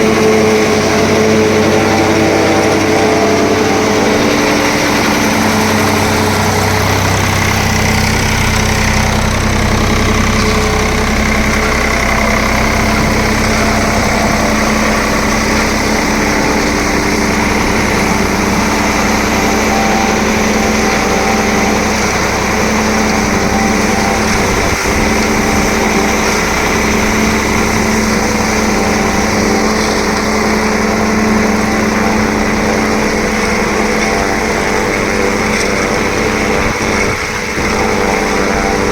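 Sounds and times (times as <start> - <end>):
machine mechanical noise: 0.0 - 38.9
tractor engine running: 0.0 - 38.9.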